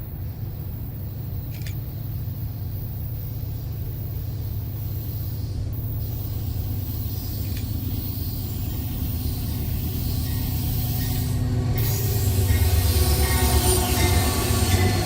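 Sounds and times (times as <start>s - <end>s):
diesel freight train rumbling: 0.0s - 15.0s.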